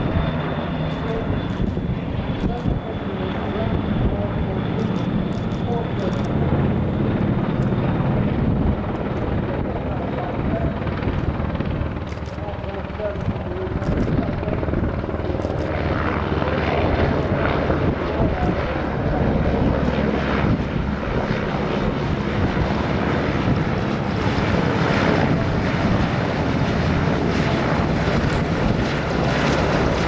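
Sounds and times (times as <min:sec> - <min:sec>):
helicopter flying low past: 0:00.0 - 0:30.0.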